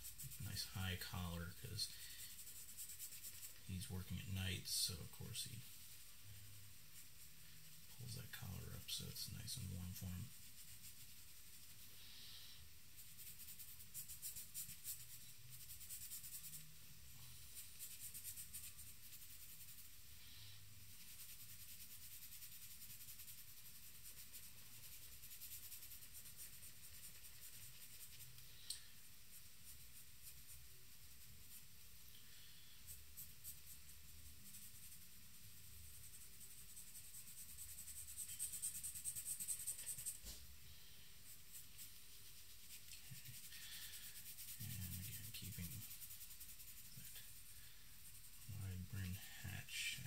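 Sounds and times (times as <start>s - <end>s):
charcoal pencil scratching paper: 0.0s - 12.0s, 12.9s - 20.2s, 20.8s - 40.5s, 41.2s - 50.0s.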